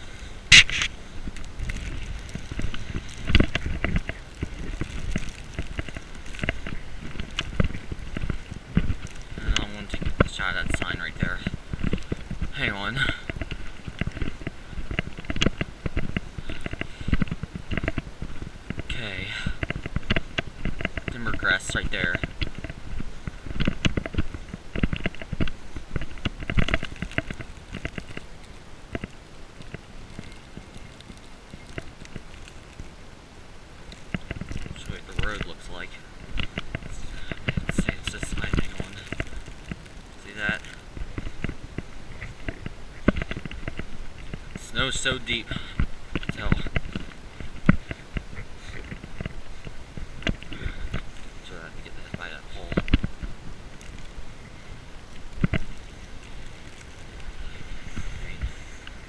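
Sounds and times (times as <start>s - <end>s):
footsteps crunching through snow: 0.0s - 59.0s
camera rustling and knocks: 0.5s - 12.5s, 13.2s - 18.9s, 19.6s - 32.9s, 36.2s - 44.6s, 45.7s - 51.4s, 52.1s - 54.2s, 55.1s - 59.0s.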